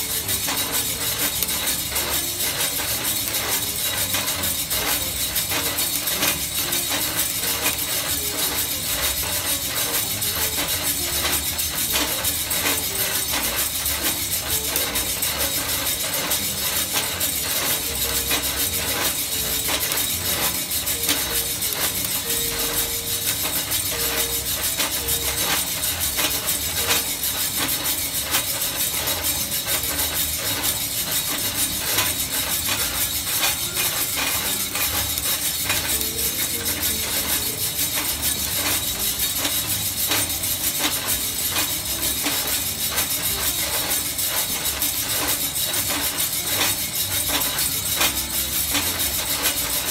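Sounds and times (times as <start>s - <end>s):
roaster hiss: 0.0s - 49.9s
coffee beans popping: 0.1s - 49.9s.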